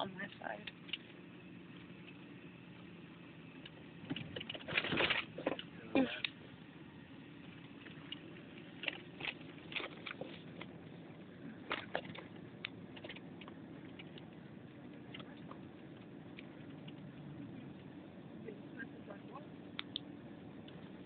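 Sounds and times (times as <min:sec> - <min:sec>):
car road and engine hum: 0:00.0 - 0:21.0.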